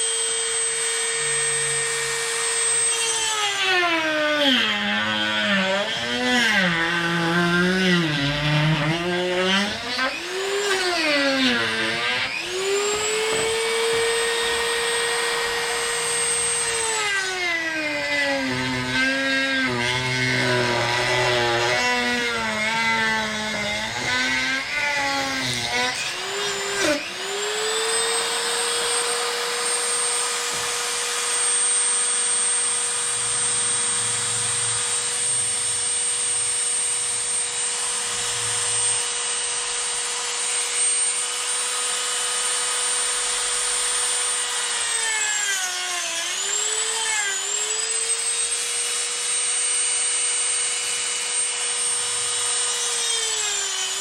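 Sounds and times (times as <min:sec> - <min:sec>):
rotary tool high whine: 0:00.0 - 0:54.0.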